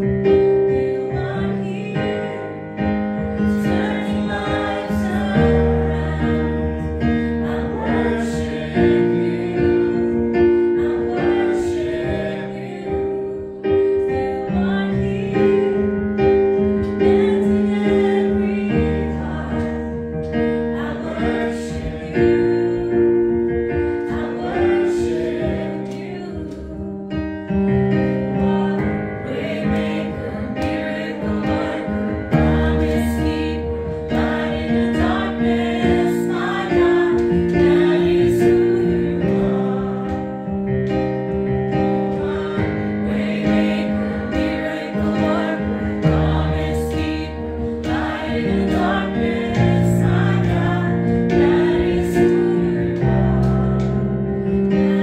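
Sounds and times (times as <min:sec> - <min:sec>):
keyboard chords: 0:00.0 - 0:55.0
voices singing: 0:03.4 - 0:26.8, 0:28.0 - 0:41.1, 0:41.8 - 0:55.0.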